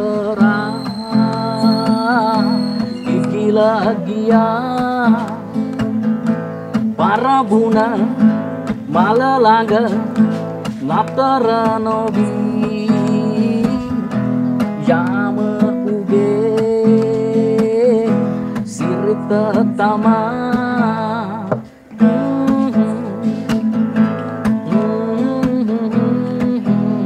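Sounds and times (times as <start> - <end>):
acoustic guitar strumming: 0.0 - 27.0
man singing: 0.0 - 27.0.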